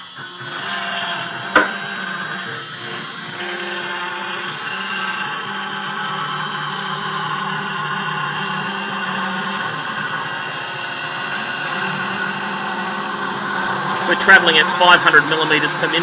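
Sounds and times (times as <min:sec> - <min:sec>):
router spindle milling plastic: 0:00.0 - 0:16.0.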